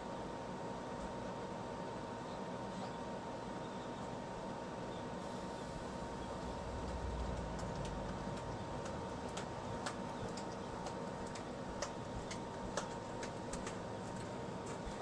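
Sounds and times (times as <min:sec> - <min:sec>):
room noise: 0:02.2 - 0:15.0.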